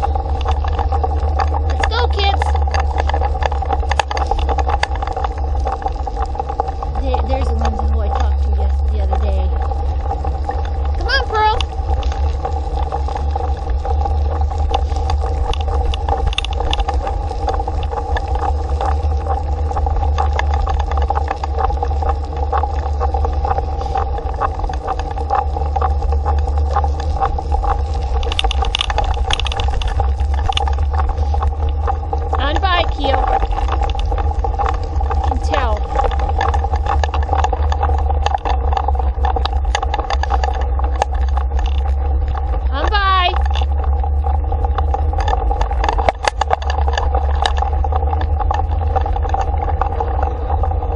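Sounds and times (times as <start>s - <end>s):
steady two-note hum: 0.0s - 50.9s
tyres and wind rumbling: 0.0s - 50.9s
wheels and frame rattling: 0.0s - 50.9s.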